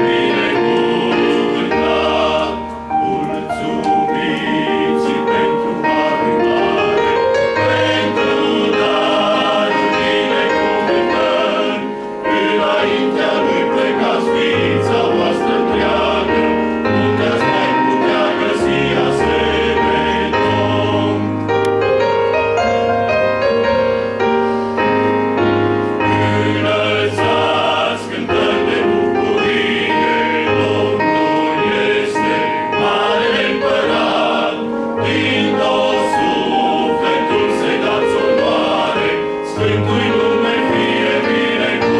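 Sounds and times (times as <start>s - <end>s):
men's choir singing a hymn: 0.0s - 21.8s, 24.5s - 41.9s.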